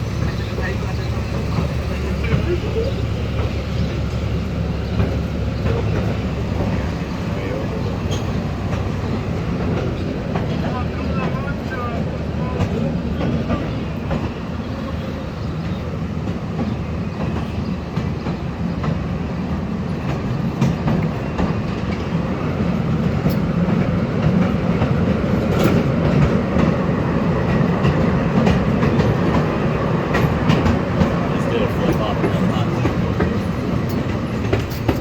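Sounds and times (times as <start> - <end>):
train cars rumbling on track: 0.0 - 35.0.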